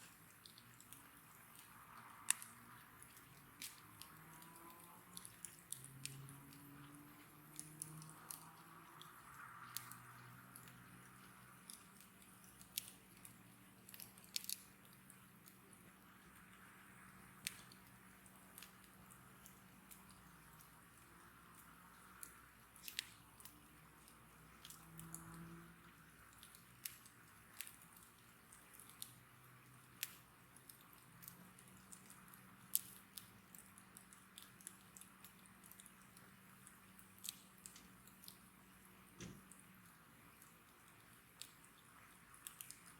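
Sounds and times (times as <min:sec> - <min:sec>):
bonfire crackling and popping: 0:00.0 - 0:42.9.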